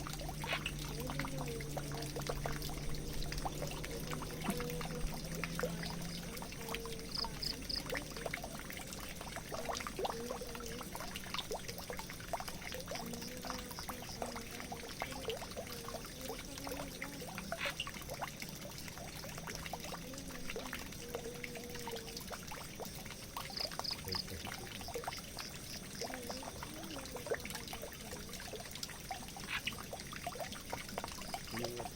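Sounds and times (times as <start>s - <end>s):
water drips and splashes: 0.0s - 31.9s
water pouring and trickling: 0.0s - 31.9s.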